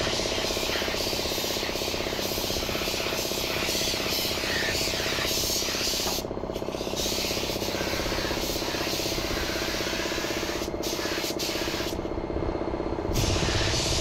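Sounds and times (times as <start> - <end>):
spray gun hissing: 0.0 - 12.0, 13.2 - 14.0.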